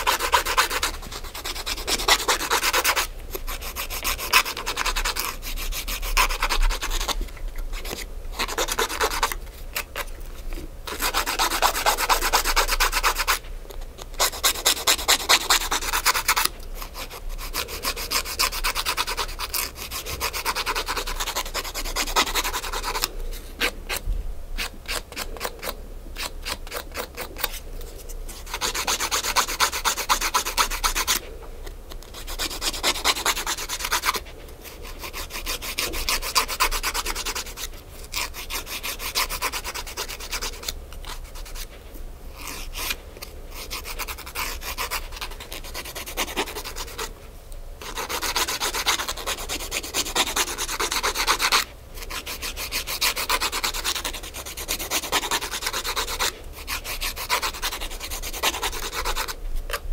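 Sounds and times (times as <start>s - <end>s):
nail file rasping on fingernails: 0.0s - 10.1s, 10.9s - 24.0s, 24.6s - 27.6s, 28.3s - 31.2s, 31.9s - 41.7s, 42.4s - 47.1s, 47.8s - 59.8s.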